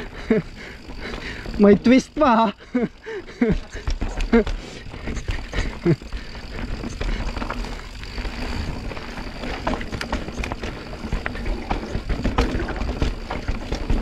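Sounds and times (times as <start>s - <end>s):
bike knocks and rattles: 0.0s - 14.0s.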